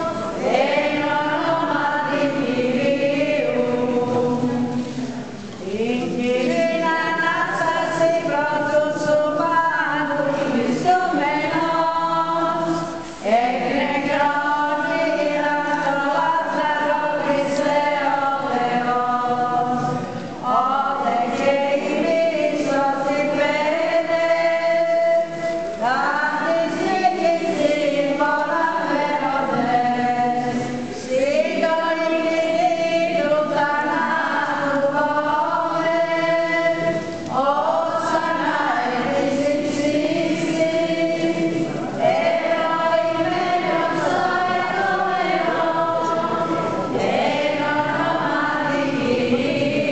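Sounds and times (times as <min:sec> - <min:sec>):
group singing a hymn: 0:00.0 - 0:49.9.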